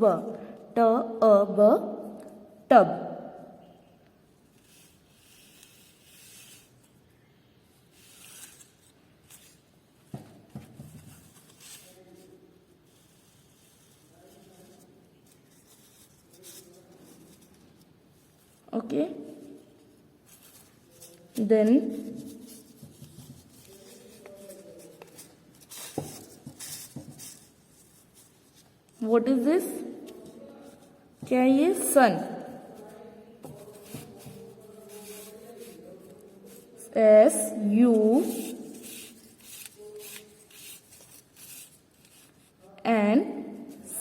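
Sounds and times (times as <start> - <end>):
faint scratching and rustling: 4.3 - 29.0, 29.8 - 37.0, 37.8 - 42.8.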